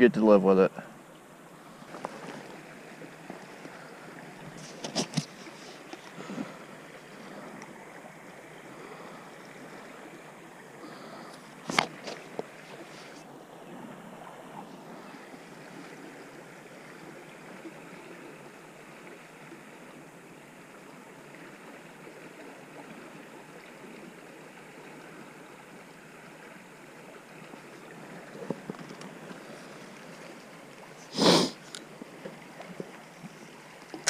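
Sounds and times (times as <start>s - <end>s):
creek water running: 0.0s - 34.0s.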